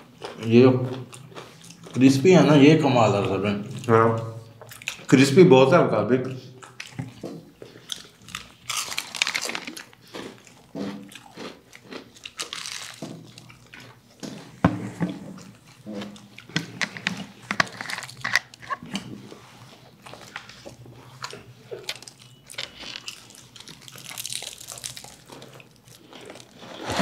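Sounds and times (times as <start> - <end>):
crunchy chewing of fried chicken: 0.0 - 5.4, 6.2 - 27.0.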